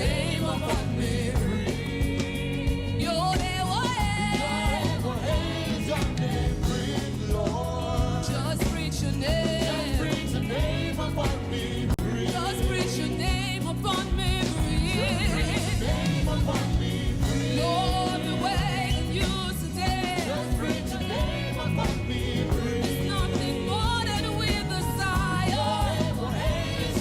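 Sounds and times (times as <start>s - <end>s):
person singing with vibrato: 0.0s - 27.0s.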